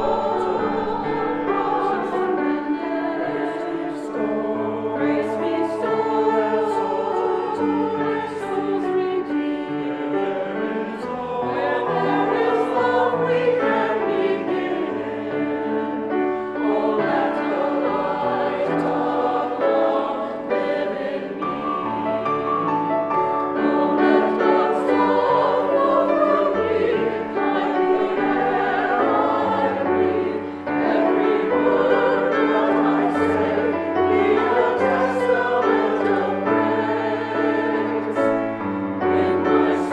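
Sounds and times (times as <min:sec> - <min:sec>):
choir singing held chords: 0:00.0 - 0:39.9.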